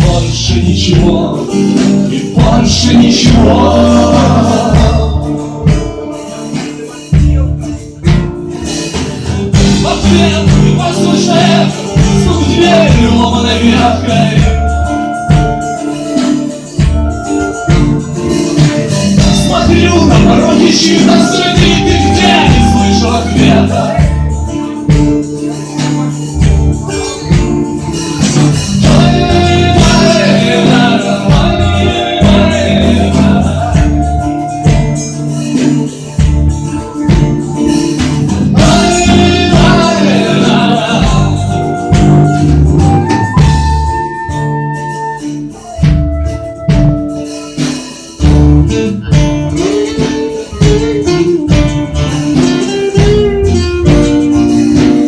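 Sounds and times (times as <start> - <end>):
bending guitar lead line: 0.0 - 55.0
live band playing: 0.0 - 55.0.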